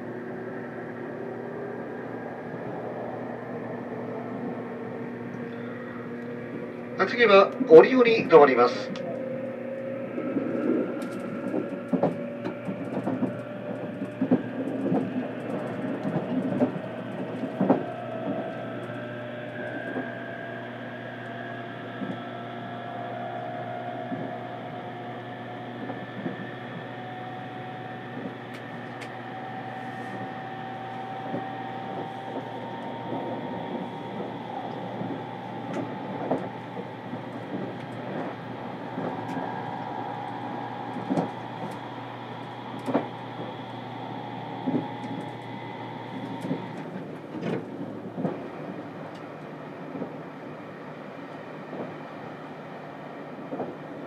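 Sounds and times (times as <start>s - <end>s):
train motor whine: 0.0s - 54.0s.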